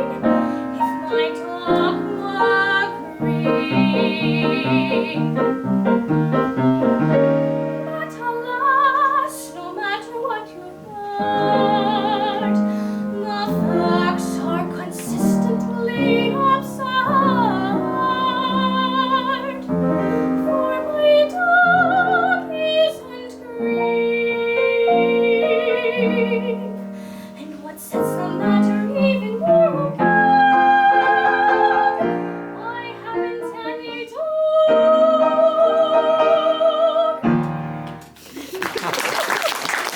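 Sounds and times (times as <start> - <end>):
woman singing classical song: 0.0 - 38.0
piano accompaniment: 0.0 - 38.4.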